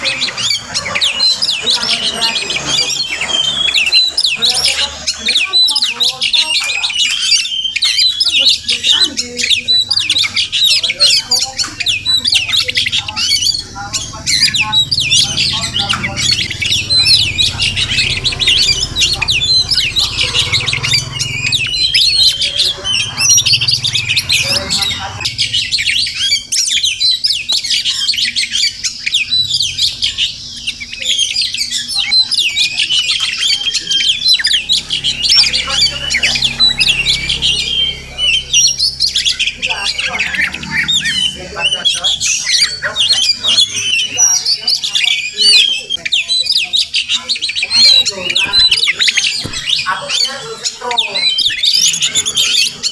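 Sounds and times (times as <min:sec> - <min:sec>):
bird singing whistles and chirps: 0:00.0 - 0:52.9.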